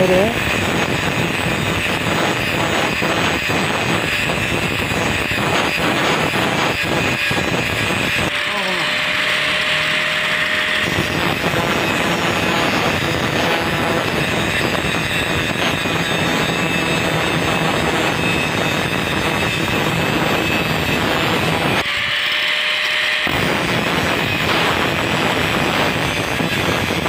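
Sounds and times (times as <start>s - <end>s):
grinder wheel grinding metal: 0.0s - 27.0s.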